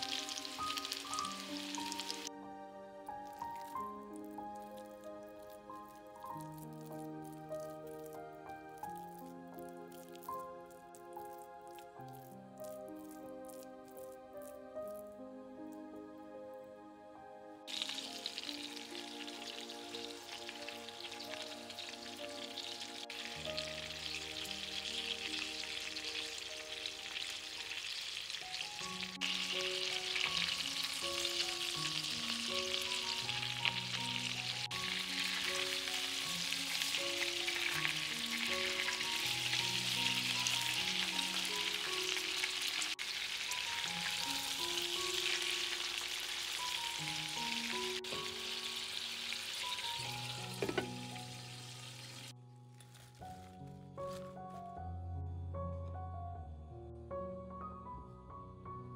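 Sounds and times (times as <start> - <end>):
food sizzling in a pan: 0.0 - 2.3, 3.1 - 15.0, 17.7 - 53.5
slow background melody: 0.0 - 58.9.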